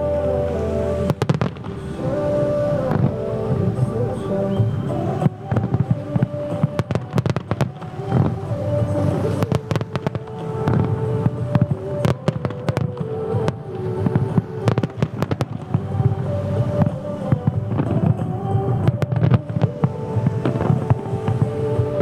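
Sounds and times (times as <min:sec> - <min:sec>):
fireworks bangs and crackles: 0:01.0 - 0:22.0.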